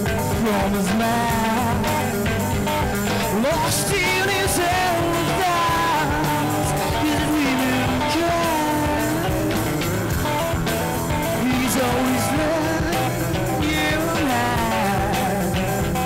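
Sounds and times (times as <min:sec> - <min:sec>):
man singing long held notes: 0:00.0 - 0:02.3, 0:03.1 - 0:10.1, 0:11.2 - 0:16.0
drum kit: 0:00.0 - 0:16.0
electric guitar: 0:00.0 - 0:16.0.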